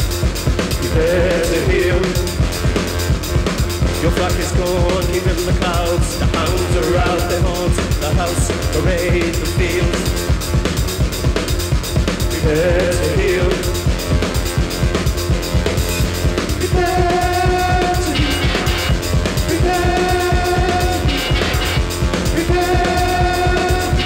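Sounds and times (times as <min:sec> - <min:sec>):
driving drum kit beat: 0:00.0 - 0:24.0.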